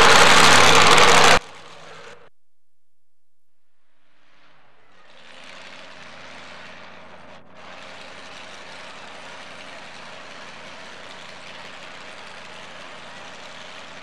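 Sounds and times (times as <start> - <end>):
truck engine idling: 0.0 - 2.3, 4.6 - 14.0.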